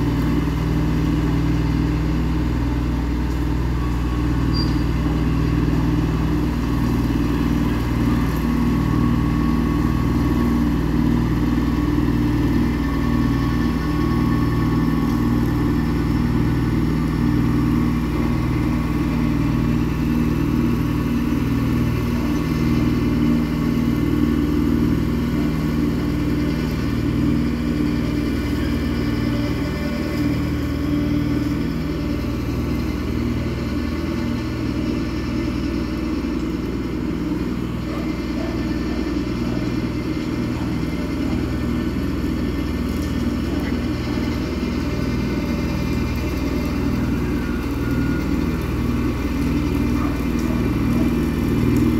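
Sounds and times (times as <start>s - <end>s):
rotary cutter running: 0.0s - 51.9s
tractor diesel engine running: 0.0s - 51.9s.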